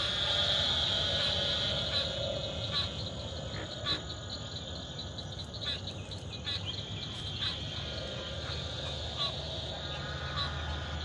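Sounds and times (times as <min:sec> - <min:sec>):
frog calls: 0:00.0 - 0:11.0
steady high insect trill: 0:00.0 - 0:11.0.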